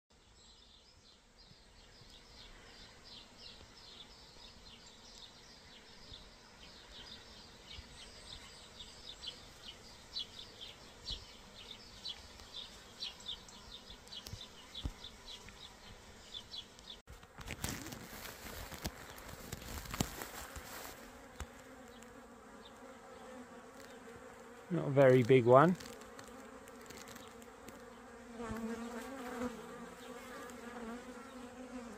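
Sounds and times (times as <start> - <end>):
bees buzzing: 2.2 - 31.9.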